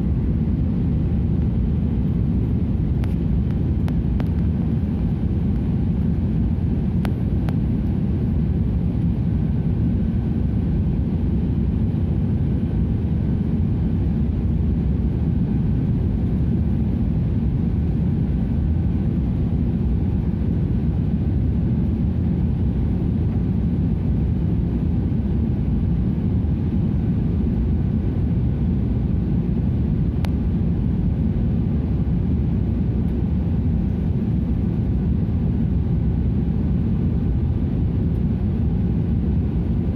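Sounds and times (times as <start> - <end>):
airliner engine rumble in cabin: 0.0 - 39.9.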